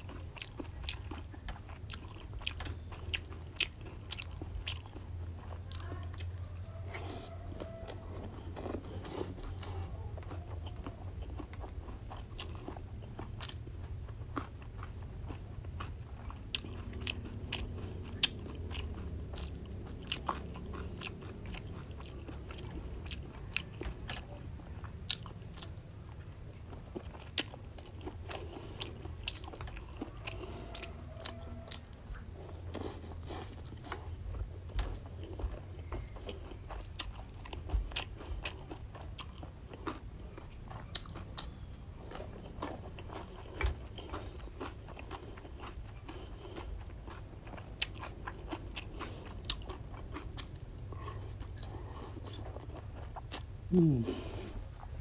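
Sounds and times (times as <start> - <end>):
chewing mouth noise: 0.0 - 55.0
crunching vegetables: 0.0 - 55.0.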